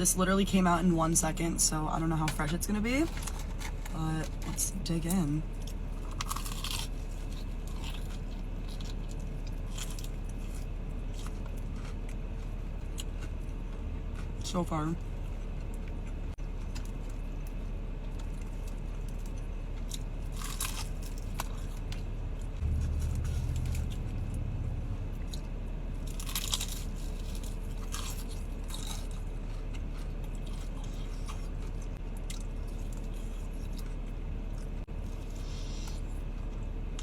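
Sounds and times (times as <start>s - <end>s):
crunchy chewing: 3.0s - 37.0s
low rumble: 7.3s - 37.0s.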